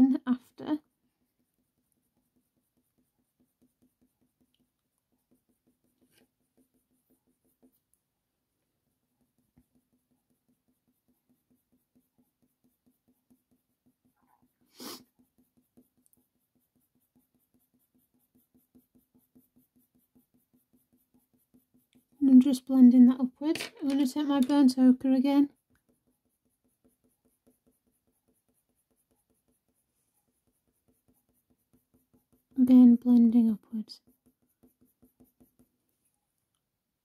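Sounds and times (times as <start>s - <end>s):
pencil scratching on paper: 0.0s - 36.7s.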